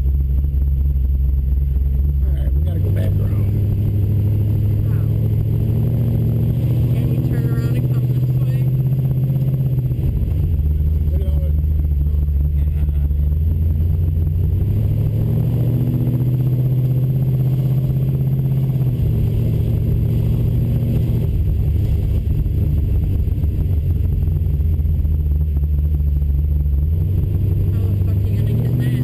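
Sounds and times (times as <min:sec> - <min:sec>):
car engine running: 0:00.0 - 0:29.0.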